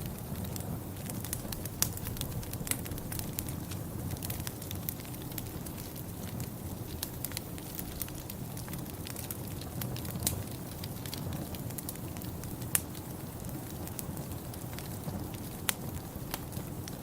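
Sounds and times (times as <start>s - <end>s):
fireplace fire crackling: 0.0s - 17.0s
sharp fire pops: 0.0s - 17.0s.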